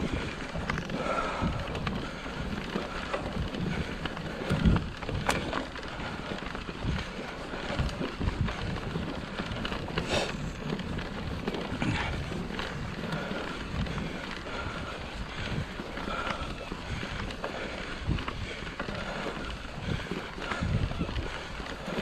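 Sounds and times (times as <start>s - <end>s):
bike knocks and rattles: 0.0s - 22.0s
bike tyre rumble: 0.0s - 22.0s
wind on microphone: 0.0s - 22.0s.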